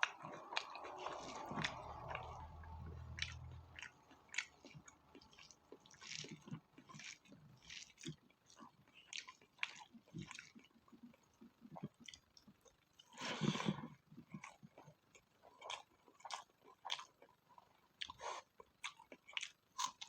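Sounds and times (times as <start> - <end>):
person chewing with wet smacks: 0.0 - 20.0.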